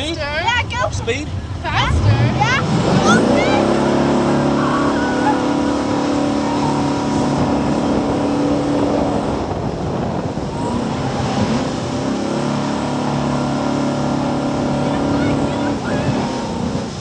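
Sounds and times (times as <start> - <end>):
speedboat engine running hard: 0.0 - 17.0.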